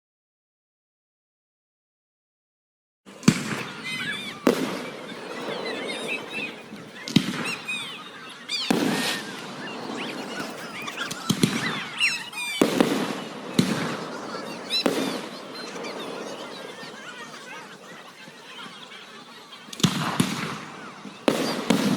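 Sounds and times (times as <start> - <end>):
firework shells bursting: 3.1 - 18.8, 19.6 - 21.9
firework whistling and crackle: 3.1 - 21.9.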